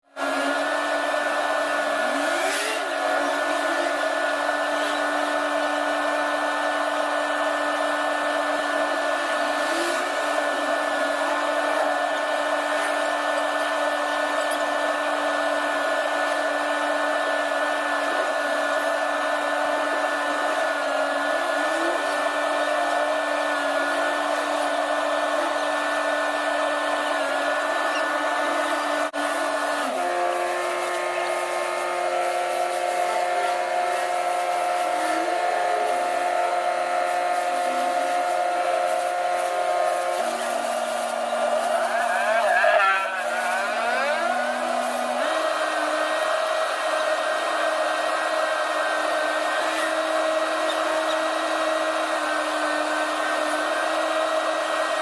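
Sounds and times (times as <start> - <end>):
steady mechanical whine: 0.0 - 55.0.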